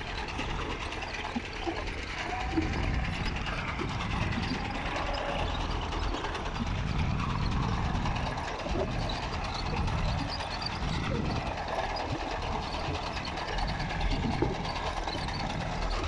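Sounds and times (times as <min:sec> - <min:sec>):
potato digger elevator rattling: 0:00.0 - 0:16.0
tractor engine running: 0:00.0 - 0:16.0.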